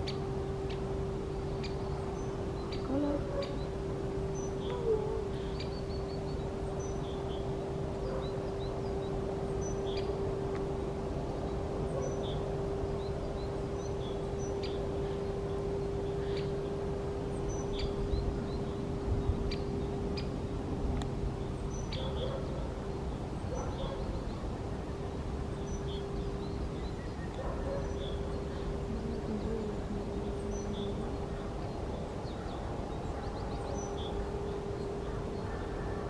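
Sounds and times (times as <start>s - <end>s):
small birds chirping: 0.0s - 36.0s
steady hum: 0.0s - 36.0s.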